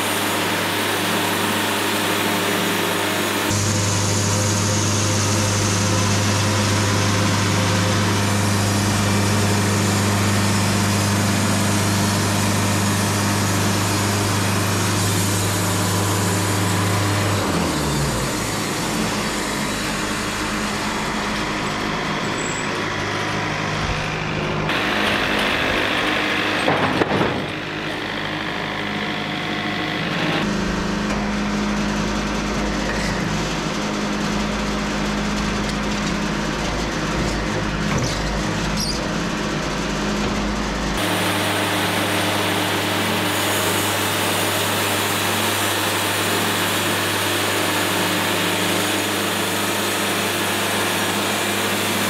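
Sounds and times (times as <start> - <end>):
band sawmill cutting log: 0.0 - 52.0.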